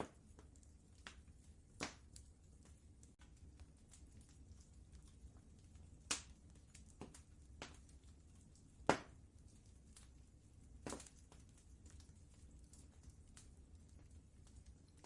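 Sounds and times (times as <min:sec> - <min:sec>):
faint low rumble: 0:00.0 - 0:15.0
wood fire crackling: 0:00.0 - 0:15.0.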